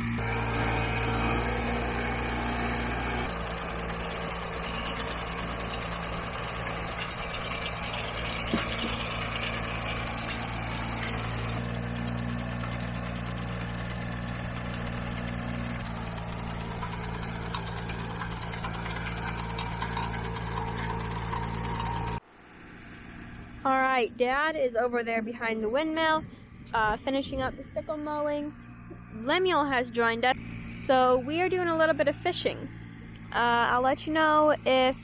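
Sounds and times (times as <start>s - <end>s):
tractor engine running: 0.0s - 22.2s, 25.8s - 35.0s.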